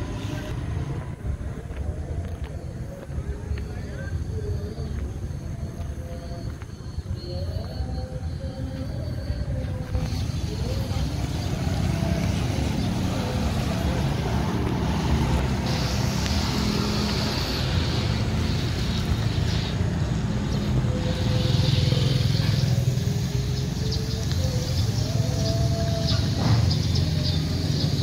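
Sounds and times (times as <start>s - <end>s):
low rumble of engines: 0.0s - 28.0s
motorcycles passing: 0.0s - 28.0s.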